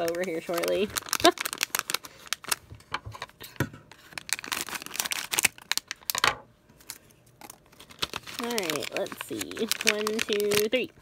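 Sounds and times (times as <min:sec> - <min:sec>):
foil wrapper crinkling: 0:00.0 - 0:06.2, 0:06.8 - 0:11.0.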